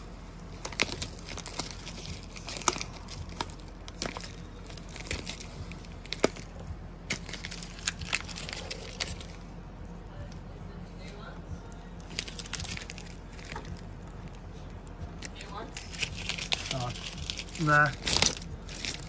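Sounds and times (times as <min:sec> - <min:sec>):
film crinkling: 0:00.0 - 0:19.0
vinyl wrap peeling crackles: 0:00.0 - 0:19.0.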